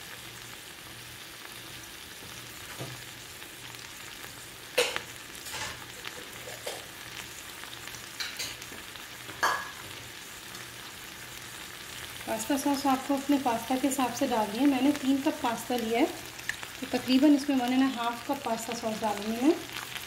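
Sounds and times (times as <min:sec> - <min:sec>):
chicken sizzling in frying pan: 0:00.0 - 0:20.0.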